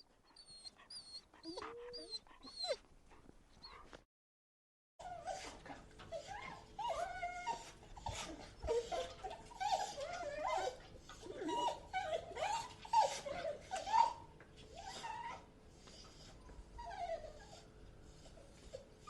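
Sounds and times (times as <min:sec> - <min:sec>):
dog whining: 0:00.2 - 0:02.8, 0:06.1 - 0:18.9.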